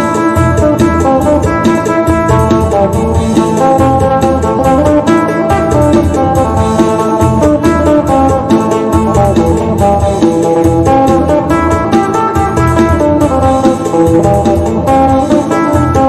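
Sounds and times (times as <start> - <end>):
plucked lute melody: 0.0 - 16.0
steady low bass: 0.0 - 16.0.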